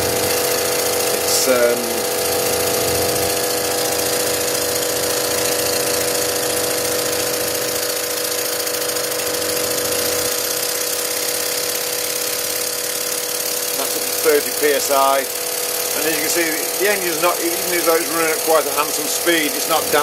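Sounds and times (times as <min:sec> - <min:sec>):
air compressor buzzing: 0:00.0 - 0:20.0
steam engine exhaust beat: 0:00.0 - 0:20.0.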